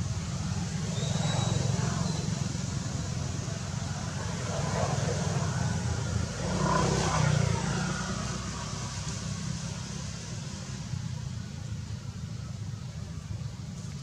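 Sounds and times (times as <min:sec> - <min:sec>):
vehicle passing by: 0:00.0 - 0:11.5.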